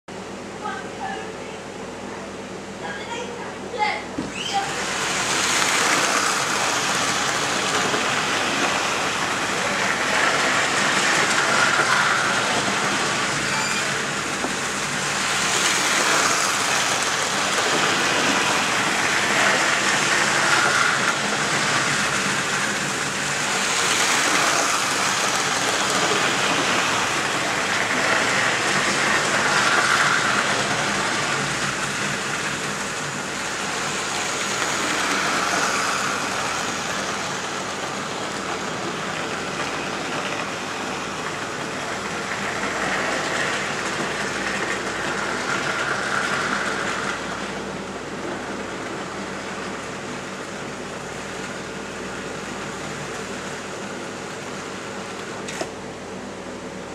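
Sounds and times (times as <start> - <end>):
train rushing: 2.8 - 56.9.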